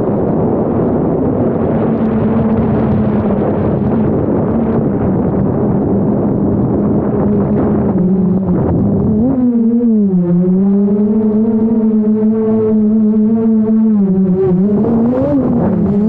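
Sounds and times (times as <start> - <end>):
drone propellers humming: 0.0 - 16.0
wind rush on microphone: 0.0 - 16.0.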